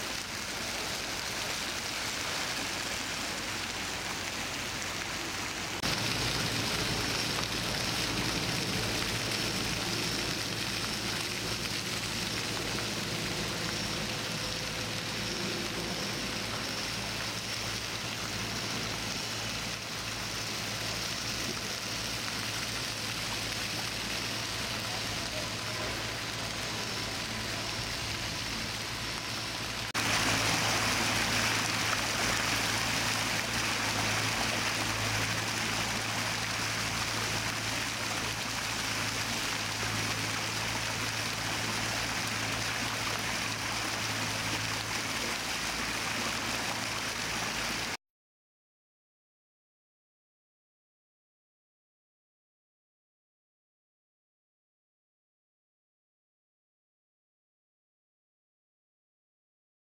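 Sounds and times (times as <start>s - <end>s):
low steady hum: 0.0s - 48.0s
water splashing down stone steps: 0.0s - 48.0s.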